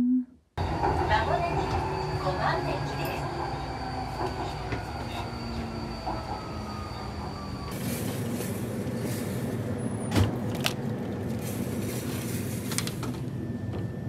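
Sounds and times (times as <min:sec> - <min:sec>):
train ride noise: 0:00.6 - 0:14.0.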